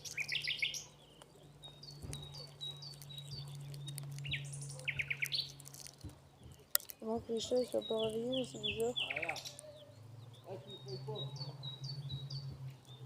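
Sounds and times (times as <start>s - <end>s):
small birds singing: 0.0s - 13.0s.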